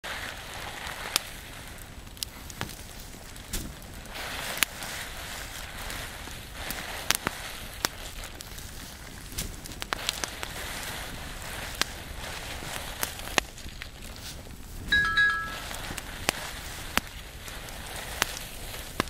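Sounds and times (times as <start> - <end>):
fire flames rushing: 0.0 - 15.0, 15.6 - 19.0
fire popping and crackling: 0.0 - 19.0.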